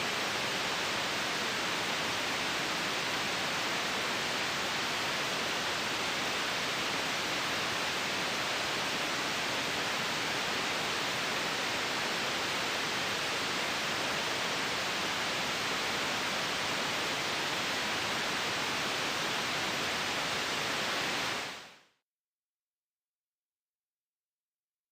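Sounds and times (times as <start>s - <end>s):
steady white noise hiss: 0.0s - 22.0s.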